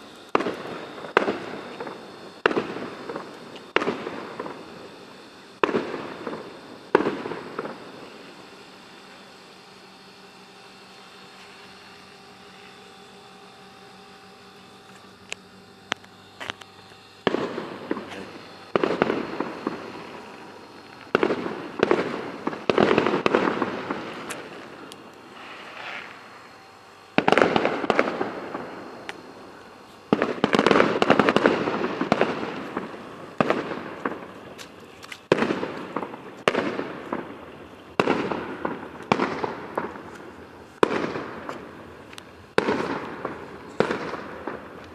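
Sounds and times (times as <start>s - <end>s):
fireworks bangs and crackle: 0.0s - 44.9s.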